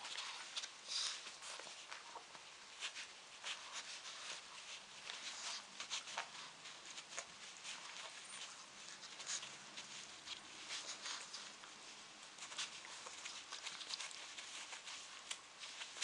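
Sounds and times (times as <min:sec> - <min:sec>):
dogs gnawing hard chews: 0:00.0 - 0:16.0.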